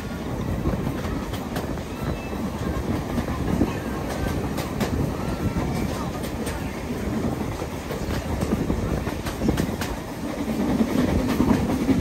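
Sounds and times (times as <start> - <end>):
train carriage rumbling: 0.0 - 12.0
wheels clicking on rails: 0.0 - 12.0.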